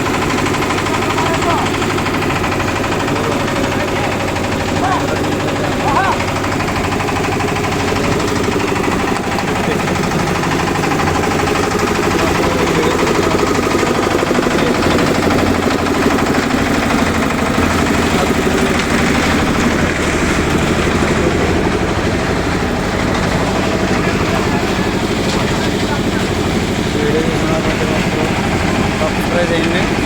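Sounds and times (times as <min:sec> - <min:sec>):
machine engine running: 0:00.0 - 0:30.0.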